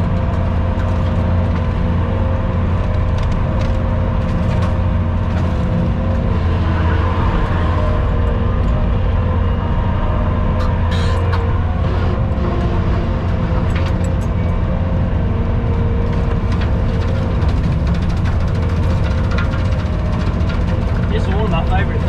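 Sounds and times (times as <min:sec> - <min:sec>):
skid steer engine under load: 0:00.0 - 0:22.0.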